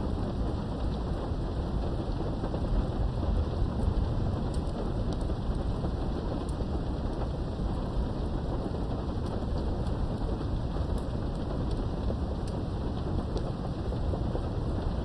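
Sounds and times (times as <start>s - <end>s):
low rumble of thunder: 0.0s - 15.0s
muffled rain through window: 0.0s - 15.0s.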